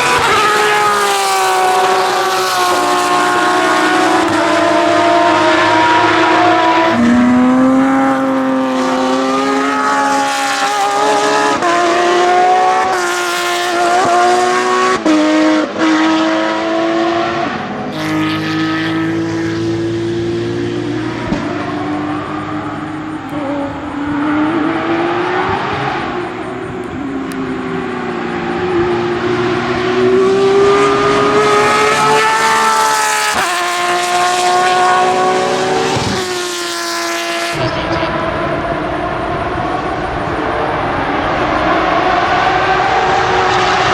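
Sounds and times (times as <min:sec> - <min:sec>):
race car engine at high revs: 0:00.0 - 0:43.9.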